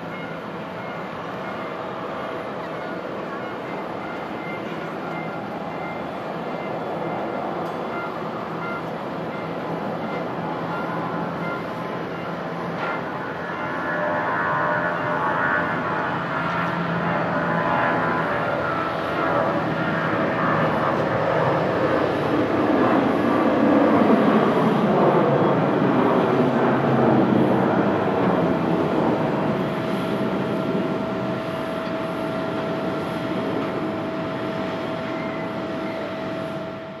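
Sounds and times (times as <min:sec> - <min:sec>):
jet engines at takeoff: 0:00.0 - 0:37.0
steady jet whine: 0:00.0 - 0:37.0.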